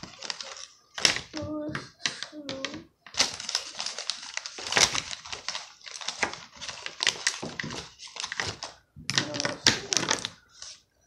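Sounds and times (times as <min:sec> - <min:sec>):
paper bag crinkling: 0:00.0 - 0:01.4, 0:02.1 - 0:10.9.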